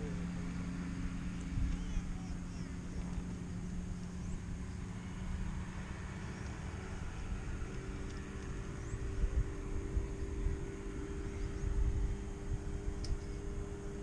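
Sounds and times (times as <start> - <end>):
engine running: 0.0 - 14.0
wind rumbling on microphone: 0.0 - 14.0.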